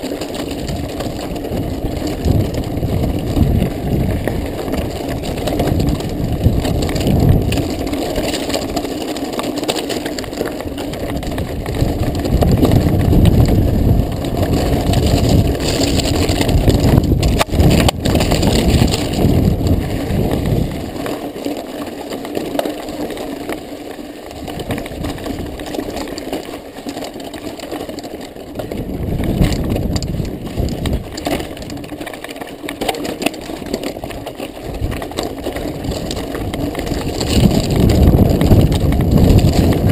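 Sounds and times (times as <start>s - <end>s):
wind rumbling on microphone: 0.0s - 9.1s, 9.8s - 21.3s, 24.2s - 26.2s, 27.5s - 32.0s, 33.0s - 39.9s
bike rattling: 0.0s - 39.9s
bike tyres crunching on gravel: 0.0s - 39.9s.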